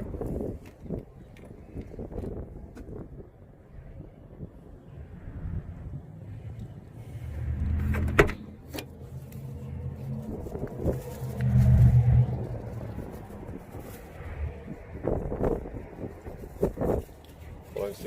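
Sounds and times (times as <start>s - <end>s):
motor vehicle rumble: 0.0s - 18.0s.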